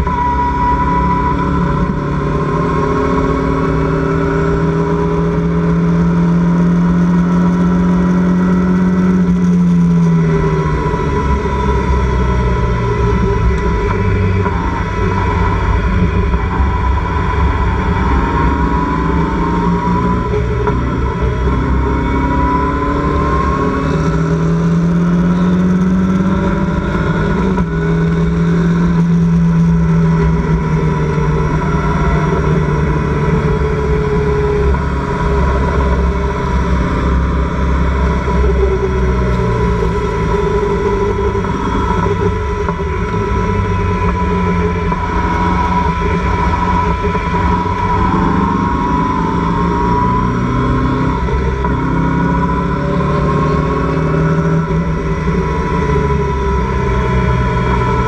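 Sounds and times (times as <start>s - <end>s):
race car engine running hard: 0.0s - 58.0s
steady rushing noise: 8.8s - 58.0s.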